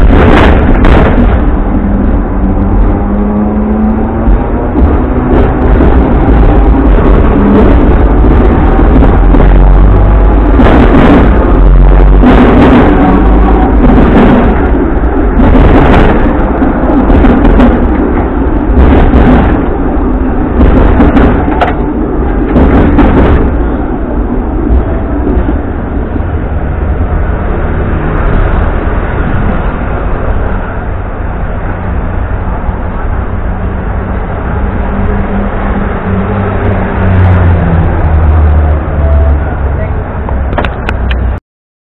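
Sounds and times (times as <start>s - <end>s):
tram wheels rumbling on rails: 0.0s - 41.4s.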